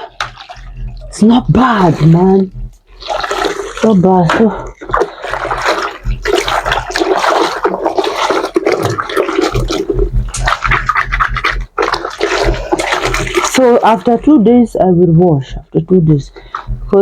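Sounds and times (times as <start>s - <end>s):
wet fabric scrubbed by hand: 0.0s - 14.5s
water sloshing: 0.0s - 17.0s.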